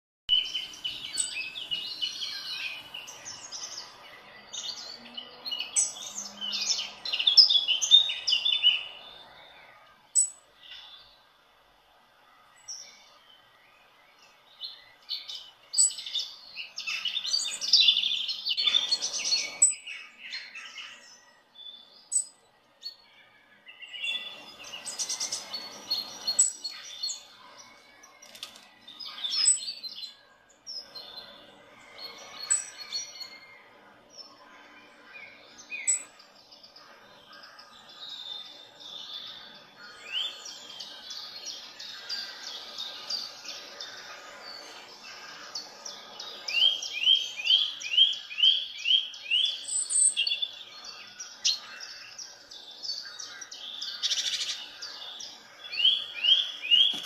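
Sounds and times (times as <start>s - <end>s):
small birds chirping: 0.3s - 57.0s.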